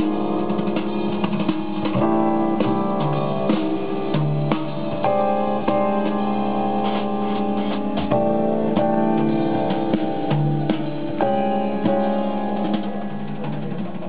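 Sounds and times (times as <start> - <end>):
keyboard-led music with drums: 0.0 - 14.0.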